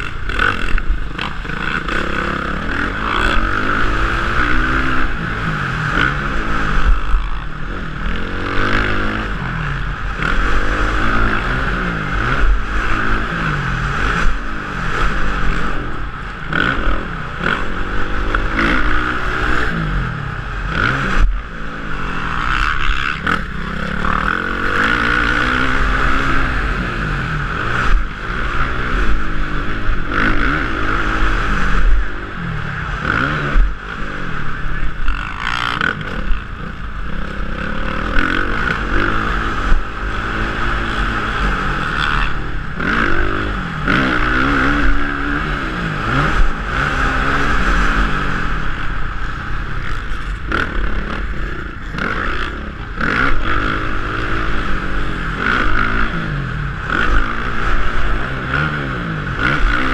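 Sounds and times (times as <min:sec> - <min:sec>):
motocross bike engine revving: 0:00.0 - 0:59.9
wind rushing over microphone: 0:00.0 - 0:59.9.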